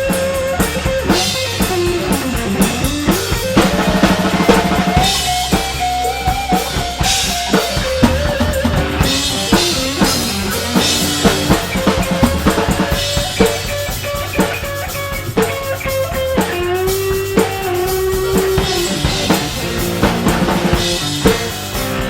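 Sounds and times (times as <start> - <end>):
bass drum and snare beat: 0.0 - 22.0
rock band playing: 0.0 - 22.0.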